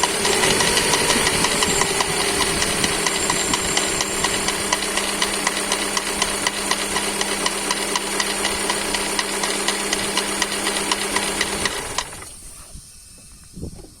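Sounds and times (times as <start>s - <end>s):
engine running with knock: 0.0s - 12.5s.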